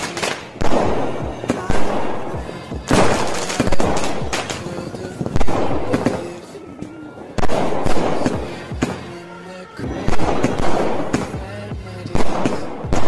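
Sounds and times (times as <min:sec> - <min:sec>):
fireworks aerial shots bursting: 0:00.0 - 0:09.2, 0:09.8 - 0:13.0
background music: 0:00.0 - 0:13.0.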